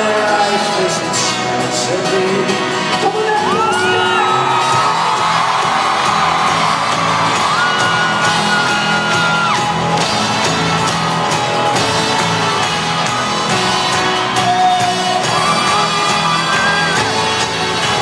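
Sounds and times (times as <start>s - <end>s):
live folk-rock band playing: 0.0s - 18.0s
audience whooping and shouting: 3.2s - 18.0s.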